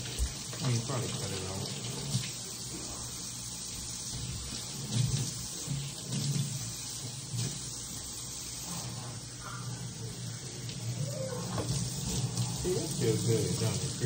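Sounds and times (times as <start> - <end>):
faucet running into sink: 0.0 - 8.6, 10.1 - 14.0.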